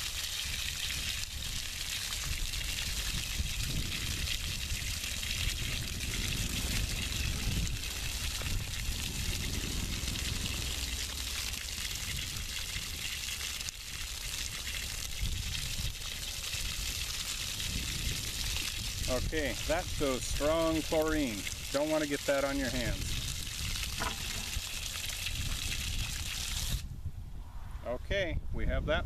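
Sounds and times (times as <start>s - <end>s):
water splashing on ground: 0.0s - 26.8s
water spraying from a hose: 0.0s - 26.9s.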